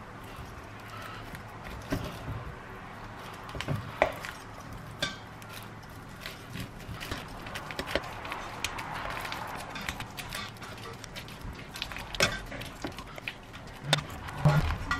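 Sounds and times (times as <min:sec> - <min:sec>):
soft squishing: 0:00.0 - 0:14.9.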